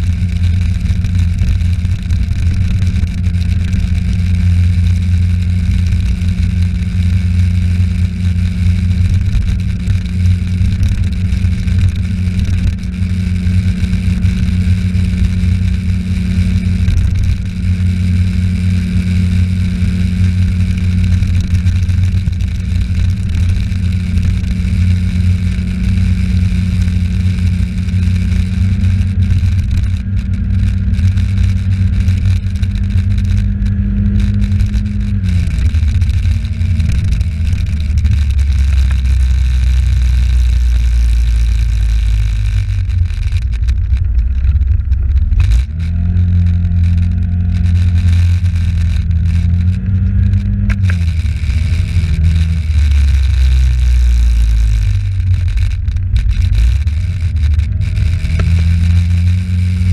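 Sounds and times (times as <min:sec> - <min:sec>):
moped engine running: 0:00.0 - 0:59.9
road and wind noise: 0:00.0 - 0:59.9.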